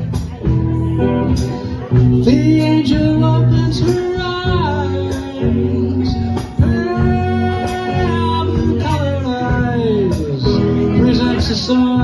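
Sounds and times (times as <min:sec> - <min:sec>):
bass guitar: 0:00.0 - 0:12.0
drums and cymbal hits: 0:00.0 - 0:12.0
electric guitar: 0:00.0 - 0:12.0
person singing long notes: 0:01.7 - 0:12.0.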